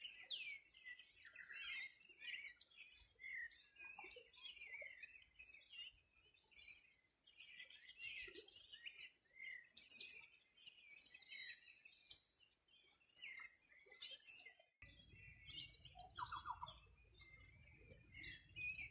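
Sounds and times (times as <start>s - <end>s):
songbirds chirping and whistling: 0.0s - 18.9s.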